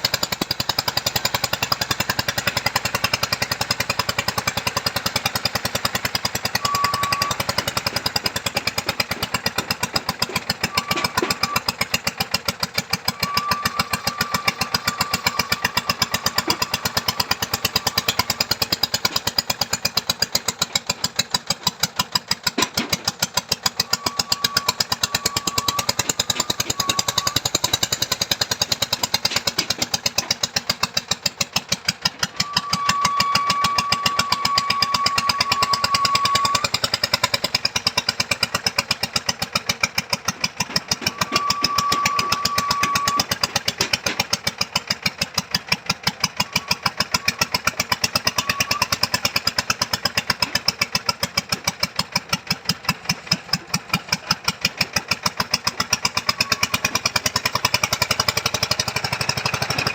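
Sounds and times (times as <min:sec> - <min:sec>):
boring machine engine knocking: 0:00.0 - 0:59.9.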